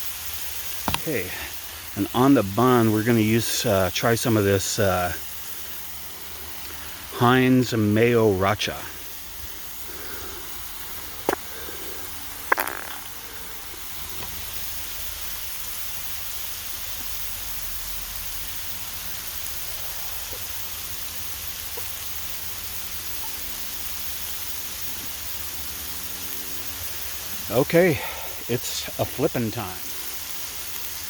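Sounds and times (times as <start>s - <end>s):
patties sizzling on a griddle: 0.0s - 31.0s.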